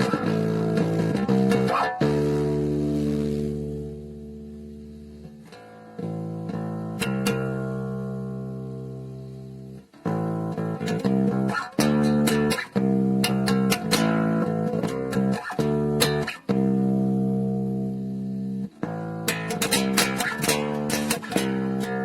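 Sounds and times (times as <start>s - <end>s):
electric guitar notes and chords: 0.0s - 22.0s.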